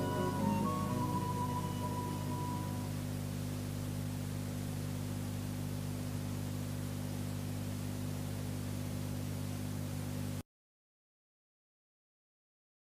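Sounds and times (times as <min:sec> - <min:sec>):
low electrical hum: 0:00.0 - 0:10.4.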